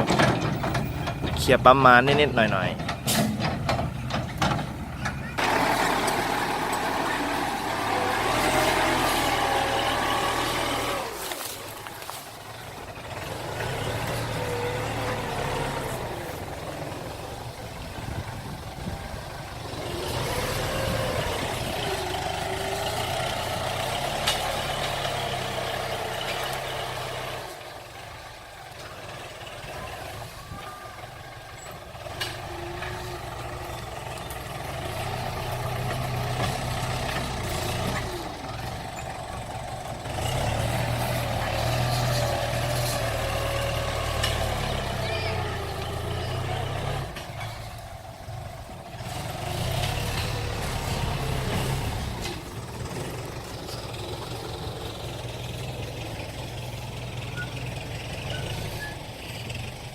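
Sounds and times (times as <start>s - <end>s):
dump truck diesel engines: 0.0s - 59.9s.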